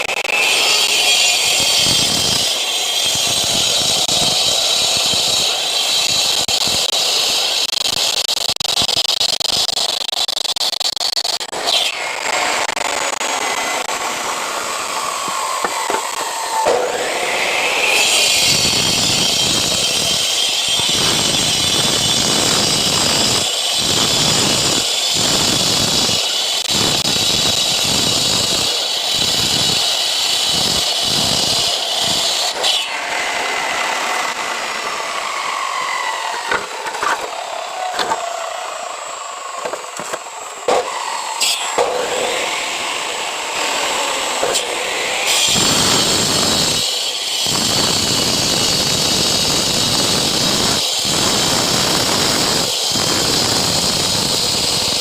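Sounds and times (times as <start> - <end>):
cutter winding down: 0.0 - 55.0
disc cutter sawing concrete: 0.0 - 55.0.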